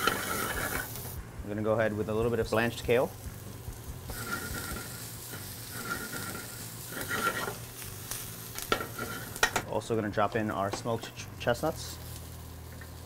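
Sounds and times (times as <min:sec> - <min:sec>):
steady low hum: 0:00.0 - 0:12.8
vegetables sizzling in a frying pan: 0:00.0 - 0:13.0.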